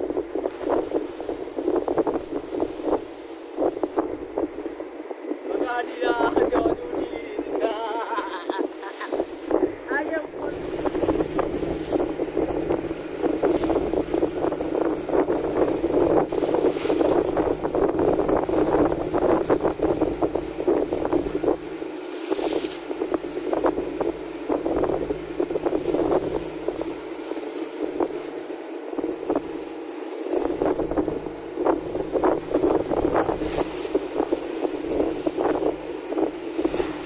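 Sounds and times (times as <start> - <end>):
water splashing against boat hull: 0.0 - 37.0
wind buffeting microphone: 0.0 - 37.0.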